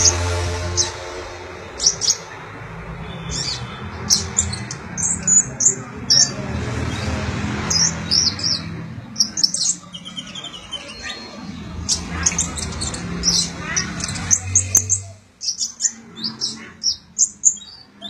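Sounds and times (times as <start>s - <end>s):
sunbird chirping and twittering: 0.0s - 18.0s.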